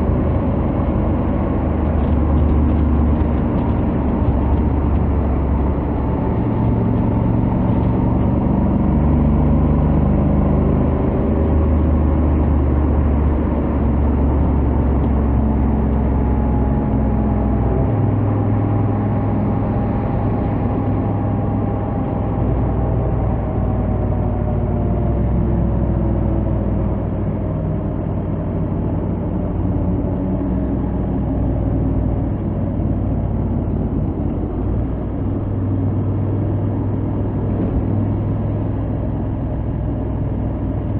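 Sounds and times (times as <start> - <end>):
motorcycle engine at speed: 0.0 - 40.9
wind and road noise: 0.0 - 40.9.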